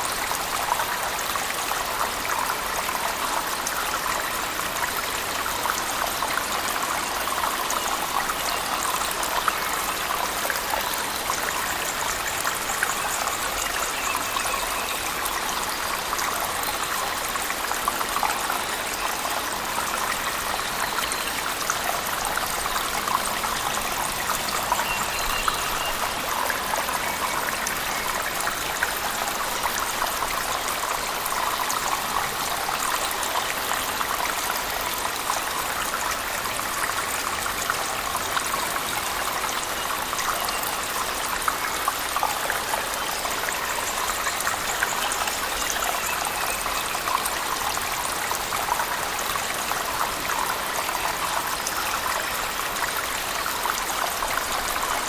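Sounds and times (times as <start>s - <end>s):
rush of falling water: 0.0s - 55.0s.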